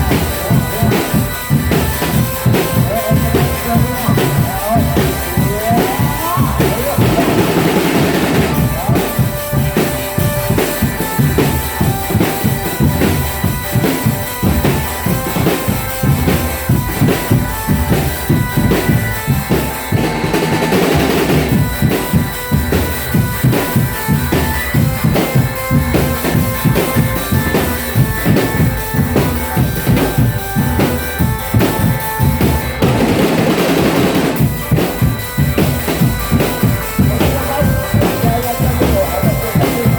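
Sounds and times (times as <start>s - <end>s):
drum band playing fast beat: 0.0s - 39.9s
held melody tones: 0.0s - 39.9s.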